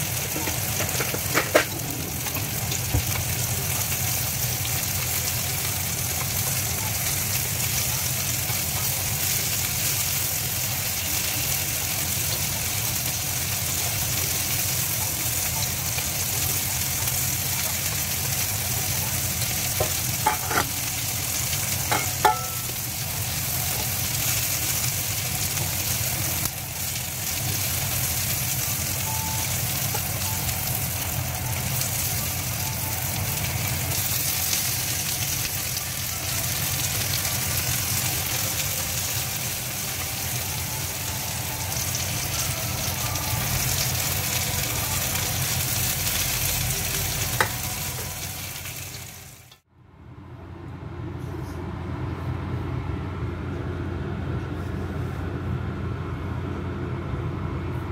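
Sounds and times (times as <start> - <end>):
food sizzling in hot oil: 0.0 - 49.7.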